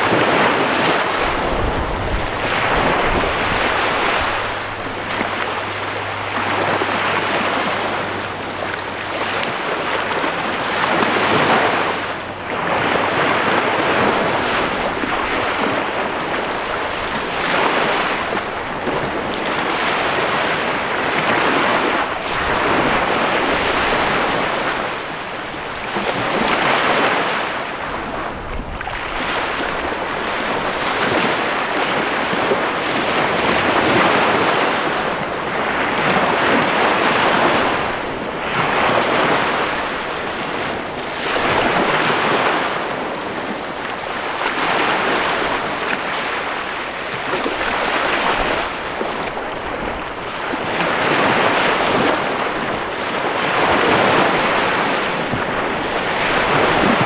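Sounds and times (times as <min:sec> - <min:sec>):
waves washing up sandy shore: 0:00.0 - 0:57.0.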